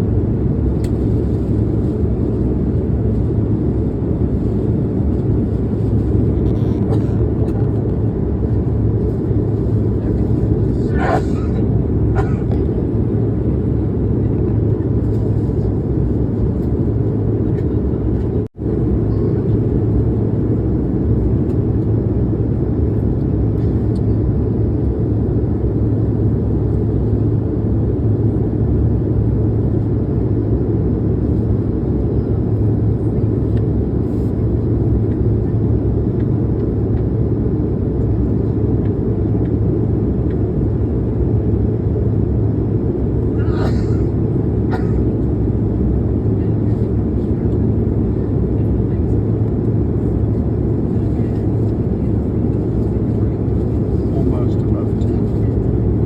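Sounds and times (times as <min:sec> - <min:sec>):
airliner engines rumbling: 0:00.0 - 0:56.0
low hum: 0:00.0 - 0:56.0.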